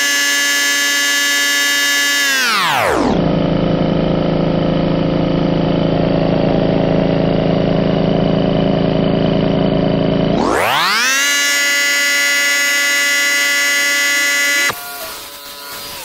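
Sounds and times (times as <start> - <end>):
air compressor motor whine: 0.0 - 16.0.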